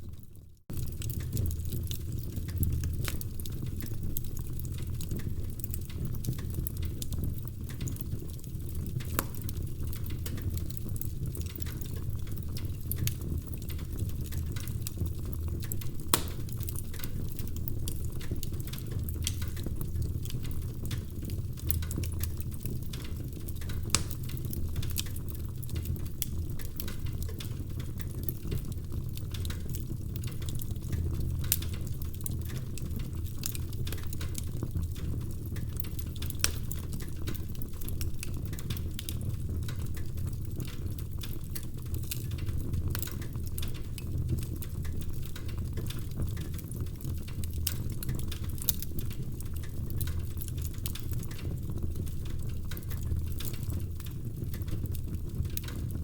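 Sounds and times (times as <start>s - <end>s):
low fire rumble: 0.0s - 56.0s
logs crackling and popping: 0.2s - 56.0s.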